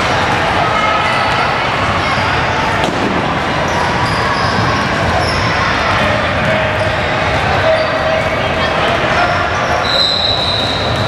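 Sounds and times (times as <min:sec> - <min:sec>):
din of players and spectators: 0:00.0 - 0:11.0.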